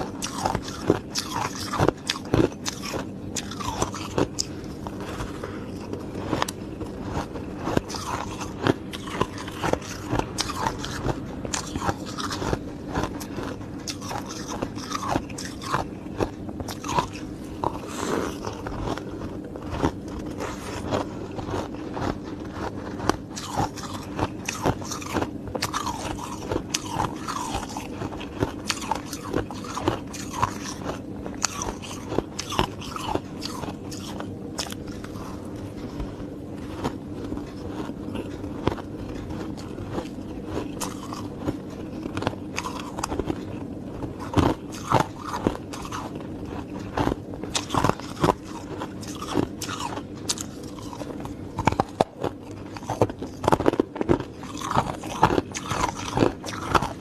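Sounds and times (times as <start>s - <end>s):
ice being chewed: 0.0s - 57.0s
steady low hum: 0.0s - 57.0s.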